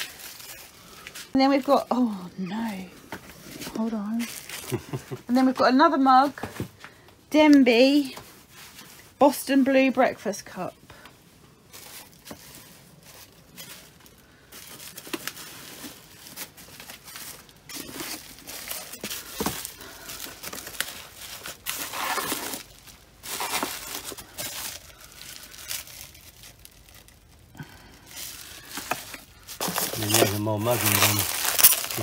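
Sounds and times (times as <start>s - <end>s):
bubble wrap crinkling: 0.0s - 6.5s, 10.9s - 32.0s.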